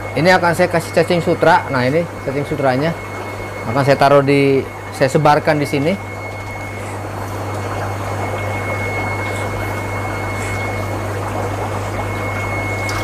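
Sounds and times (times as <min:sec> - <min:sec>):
air pump hum: 0:00.0 - 0:13.0
bubbling aeration water: 0:00.0 - 0:13.0.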